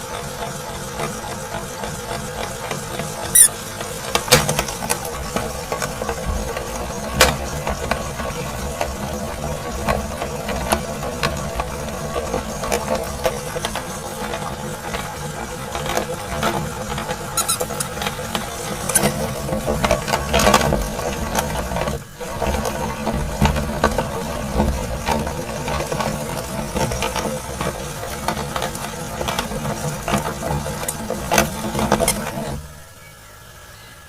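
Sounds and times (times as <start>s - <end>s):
meat grinder motor humming: 0.0s - 32.8s.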